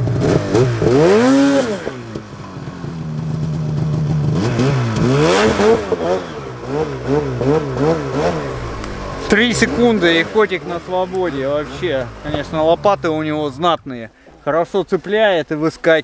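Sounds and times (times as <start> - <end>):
snowmobile engine revving: 0.0 - 14.2.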